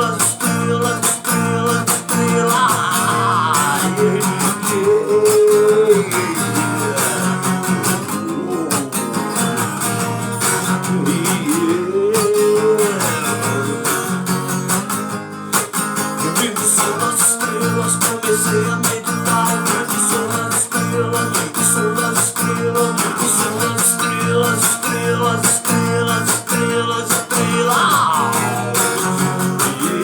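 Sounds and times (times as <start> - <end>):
strummed acoustic guitar chords: 0.0 - 30.0.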